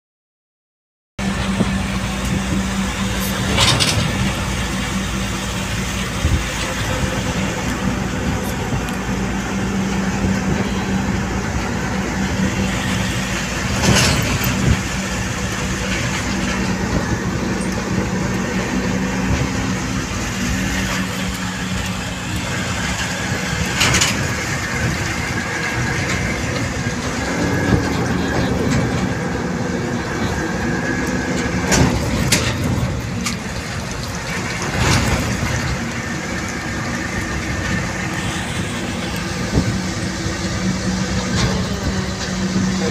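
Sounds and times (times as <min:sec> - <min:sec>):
truck diesel engine drone: 0:01.2 - 0:42.9.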